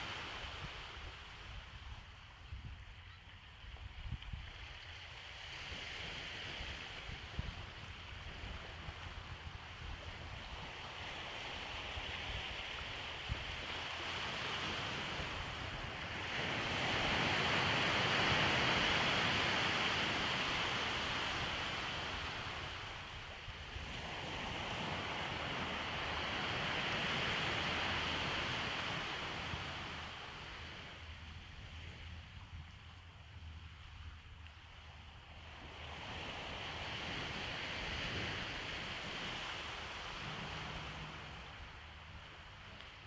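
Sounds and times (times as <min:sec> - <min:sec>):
waves breaking on beach: 0:00.0 - 0:01.8, 0:04.6 - 0:43.0.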